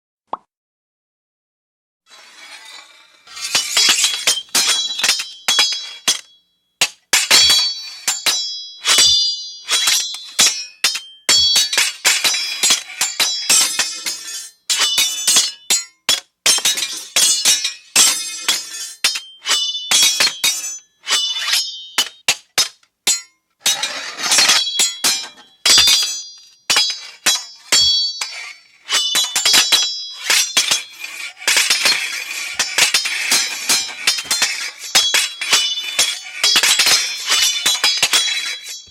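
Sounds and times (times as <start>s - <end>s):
sword blades clashing: 2.1s - 38.9s.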